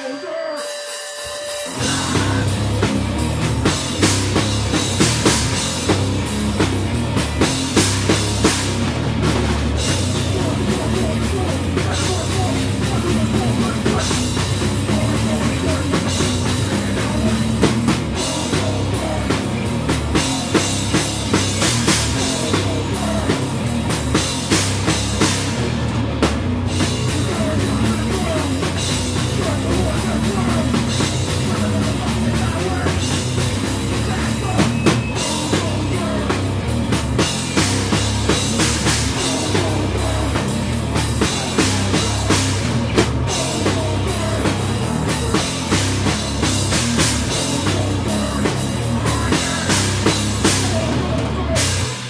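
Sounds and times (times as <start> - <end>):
hardcore band playing: 0.0 - 52.0.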